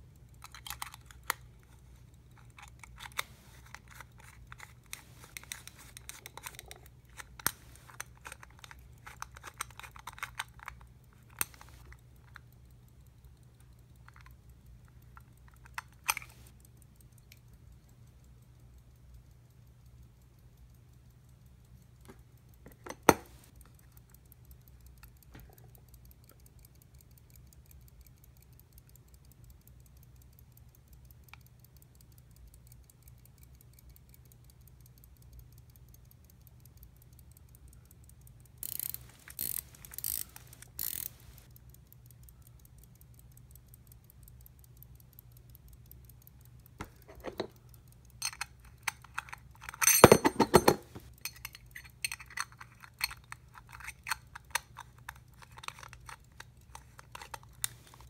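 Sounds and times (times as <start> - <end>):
metallic clicks and scrapes: 0.0 - 58.0
pocket watch ticking: 0.0 - 58.0.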